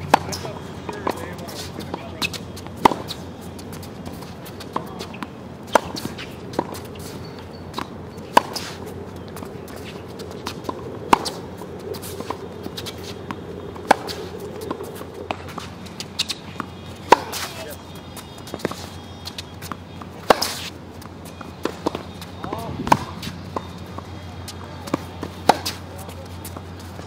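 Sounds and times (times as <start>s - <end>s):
balls bouncing on court: 0.0s - 27.0s
shoes scuffing on court: 0.0s - 27.0s
tennis racket striking balls: 0.0s - 27.0s.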